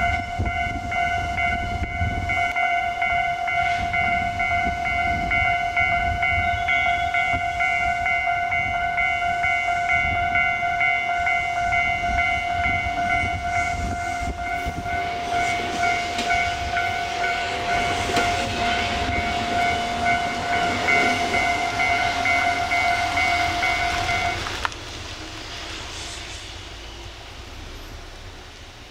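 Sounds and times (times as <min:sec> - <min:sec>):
level crossing warning bell: 0:00.0 - 0:24.6
train rushing over rails: 0:00.0 - 0:28.9.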